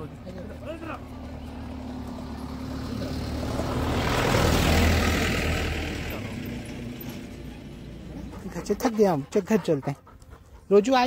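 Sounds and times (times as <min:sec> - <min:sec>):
motor vehicle passing: 0:00.0 - 0:11.0.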